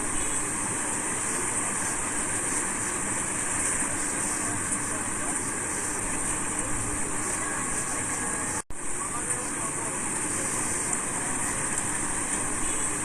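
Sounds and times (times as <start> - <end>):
indistinct chatter: 0.0 - 13.0.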